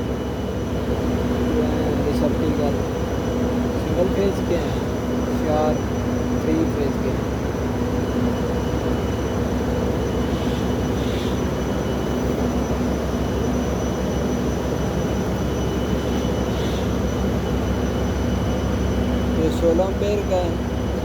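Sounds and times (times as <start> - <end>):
faint high whine: 0.0 - 21.0
machinery drone: 0.0 - 21.0.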